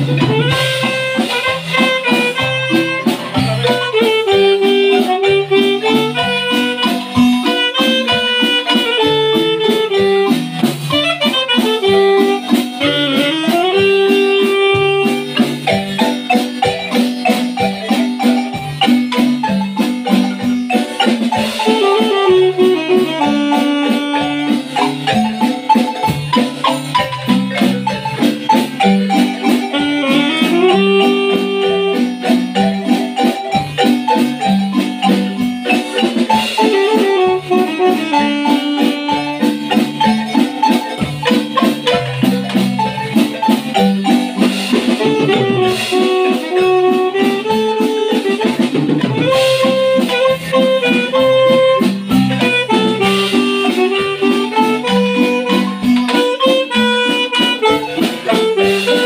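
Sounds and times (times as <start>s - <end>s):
alto saxophone melody: 0.0s - 59.0s
marimba fast run: 0.0s - 59.0s.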